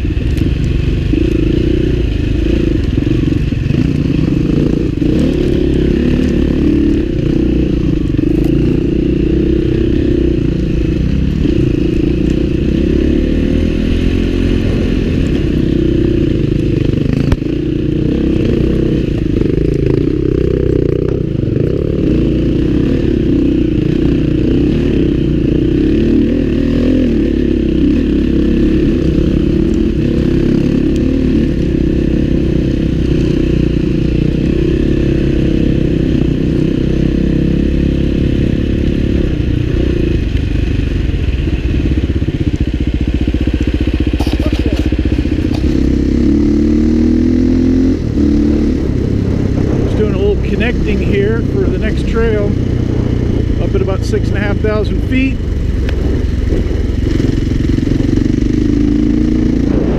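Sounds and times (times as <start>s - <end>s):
dirt bike engine pulling: 0.2s - 59.9s.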